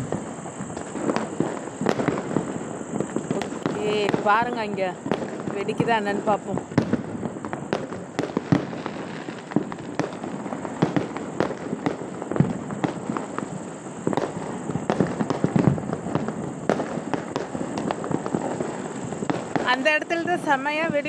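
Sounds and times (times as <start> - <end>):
firecracker bangs: 0.0 - 21.0
fireworks crackling: 0.0 - 21.0.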